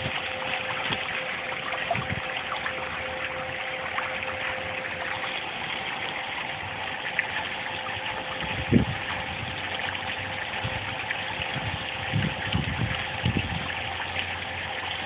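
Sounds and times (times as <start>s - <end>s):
faint steady hum: 0.0s - 15.0s
water splashing into pond: 0.0s - 15.0s.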